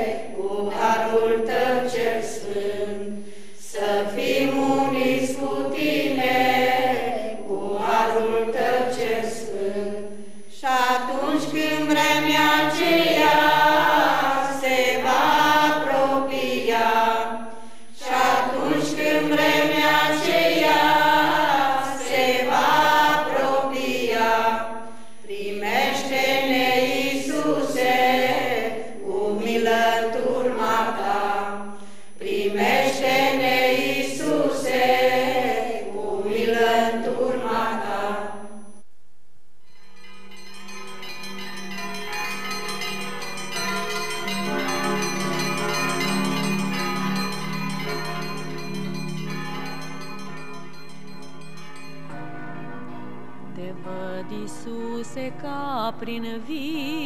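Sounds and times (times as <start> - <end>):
choir singing: 0.0 - 38.7, 40.6 - 57.0.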